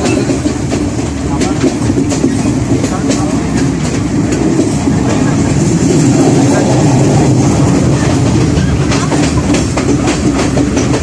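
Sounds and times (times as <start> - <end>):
train wheels rumbling on track: 0.0 - 11.0
wheels clacking over rail joints: 0.0 - 11.0.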